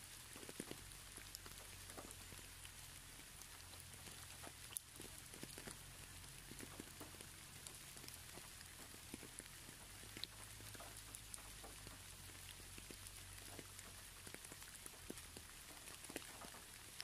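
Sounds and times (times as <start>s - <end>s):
raindrops ticking: 0.0s - 17.0s
soft rain hiss: 0.0s - 17.0s.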